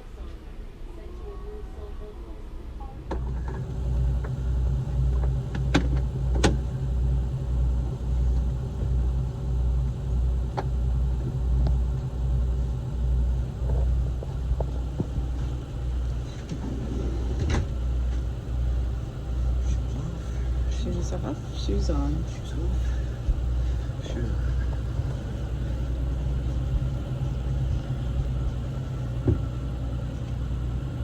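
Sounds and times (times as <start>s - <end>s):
diesel engine idling: 3.2s - 31.0s.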